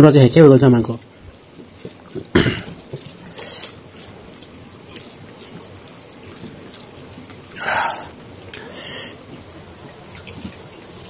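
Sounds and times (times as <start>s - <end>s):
wet squishy food mixing by hand: 0.2s - 11.0s.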